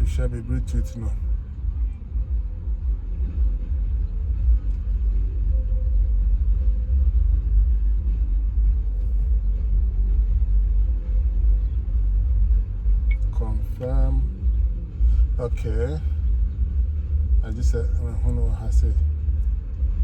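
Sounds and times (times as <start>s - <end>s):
car engine rumbling: 0.0s - 20.0s
faint steady hum: 0.0s - 20.0s.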